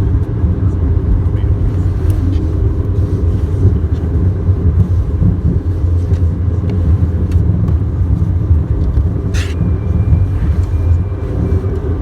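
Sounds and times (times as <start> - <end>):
jetliner cabin rumble: 0.0 - 12.0.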